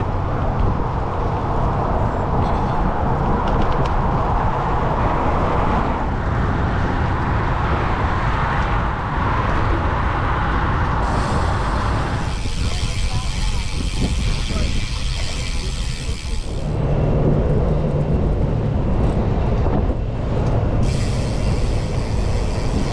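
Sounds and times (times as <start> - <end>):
wind and road rushing: 0.0 - 22.9.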